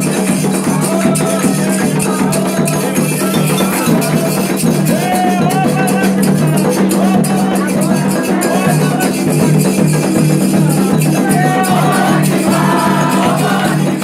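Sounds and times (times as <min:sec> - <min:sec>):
low drum band: 0:00.0 - 0:14.0
voices singing: 0:00.0 - 0:14.0.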